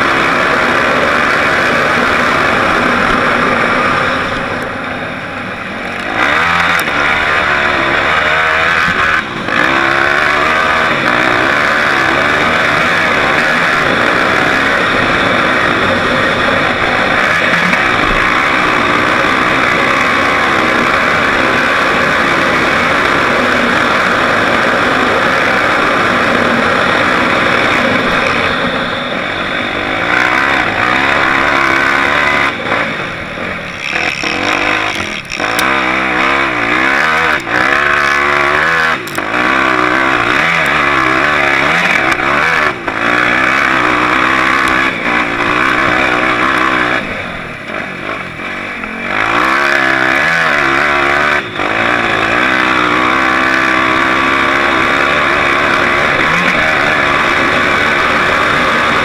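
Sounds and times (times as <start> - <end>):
off-road vehicle engine: 0.0 - 59.0.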